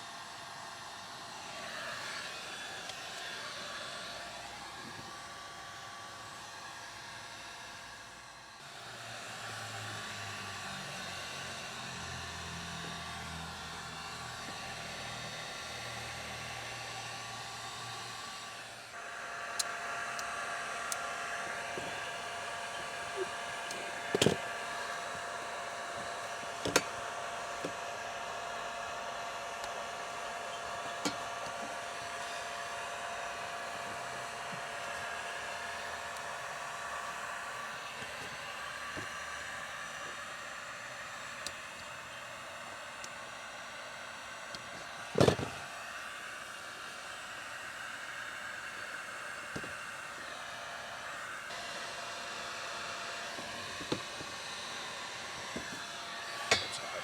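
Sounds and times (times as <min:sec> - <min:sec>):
whirring blowing motor: 0:00.0 - 0:57.0.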